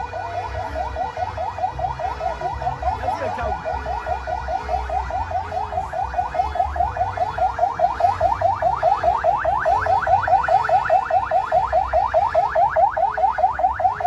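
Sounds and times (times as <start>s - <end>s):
electronic siren yelping: 0.0s - 14.0s.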